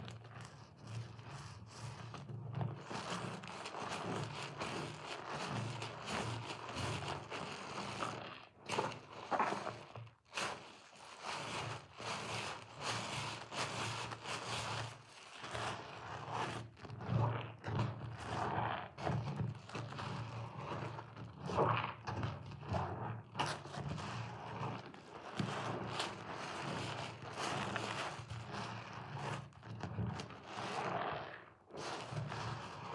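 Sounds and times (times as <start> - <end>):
sponge squishing in soap foam: 0.0 - 32.9.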